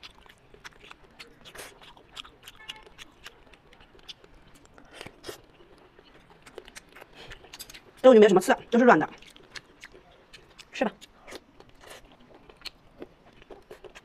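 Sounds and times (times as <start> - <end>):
wet chewing: 0.0 - 14.0.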